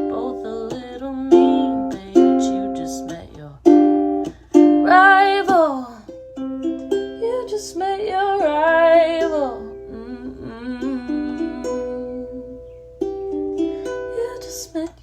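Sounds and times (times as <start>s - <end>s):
plucked string accompaniment: 0.0s - 15.0s.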